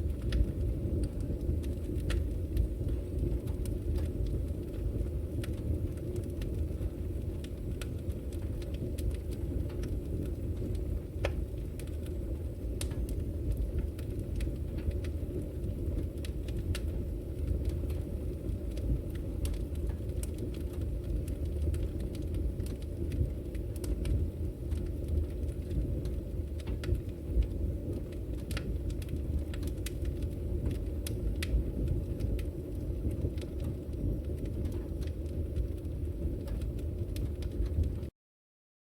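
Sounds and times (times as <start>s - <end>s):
fire crackling and popping: 0.0s - 38.1s
fire rumbling: 0.0s - 38.1s.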